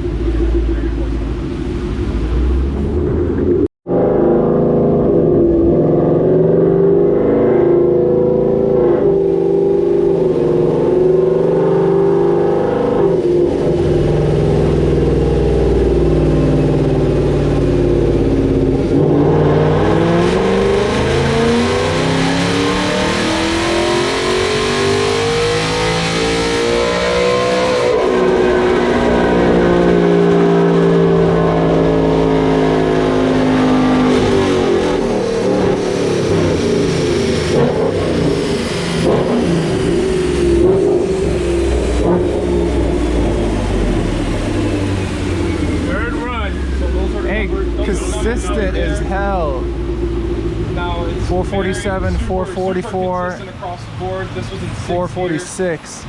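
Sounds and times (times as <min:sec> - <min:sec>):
car engine revving on dyno: 0:00.0 - 0:55.5.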